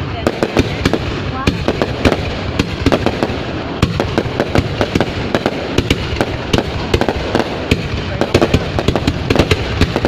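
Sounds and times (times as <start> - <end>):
fireworks bangs: 0.0 - 10.0
rumble of fireworks blasts: 0.0 - 10.0.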